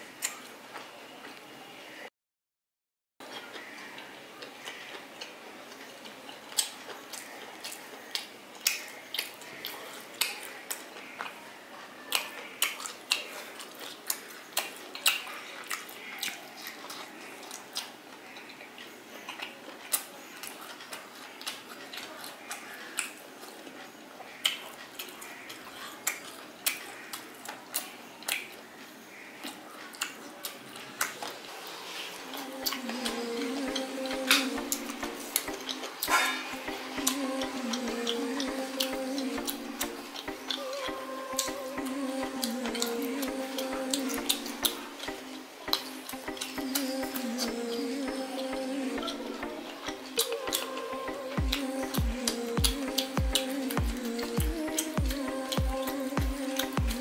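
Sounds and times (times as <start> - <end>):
wet chewing mouth clicks: 0.2 - 0.9, 3.2 - 11.4, 12.1 - 48.0, 49.0 - 57.0.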